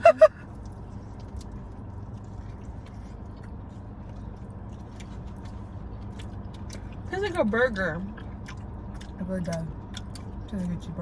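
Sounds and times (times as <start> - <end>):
steady background hum: 0.0 - 11.0
person chewing food: 0.3 - 7.1, 8.1 - 10.6.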